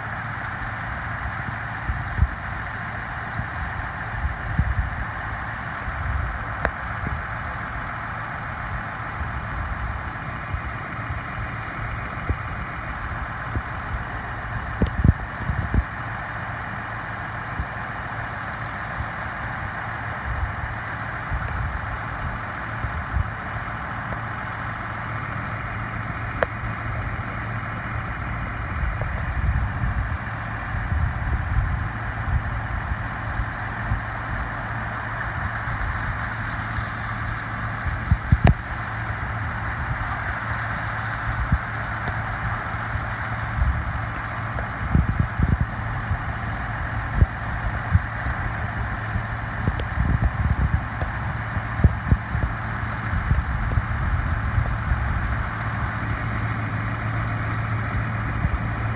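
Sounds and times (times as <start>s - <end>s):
heavy machinery engine running: 0.0s - 58.9s.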